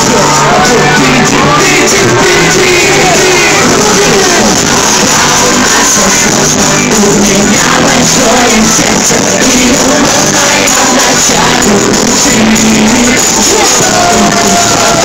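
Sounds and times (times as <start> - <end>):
live pop band: 0.0 - 15.0
person singing: 0.0 - 15.0.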